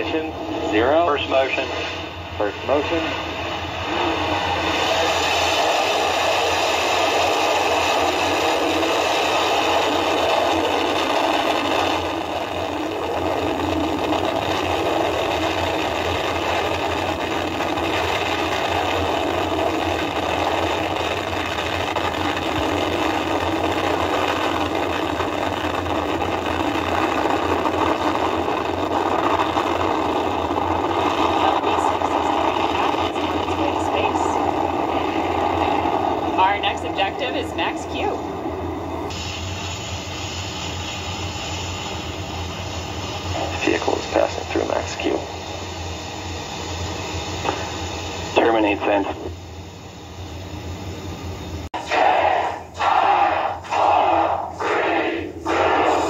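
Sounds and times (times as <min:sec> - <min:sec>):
rocket engine roar: 0:00.0 - 0:56.0.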